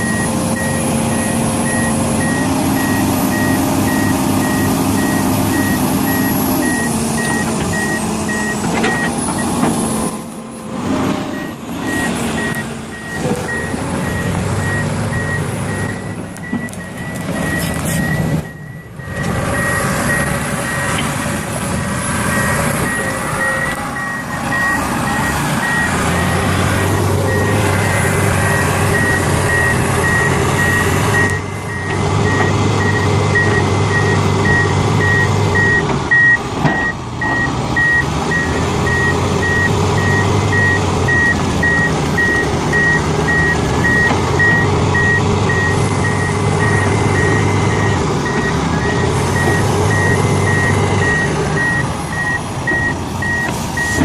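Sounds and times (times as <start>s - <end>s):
reversing alarm beeping: 0.0s - 9.6s, 11.3s - 21.0s, 22.2s - 54.0s.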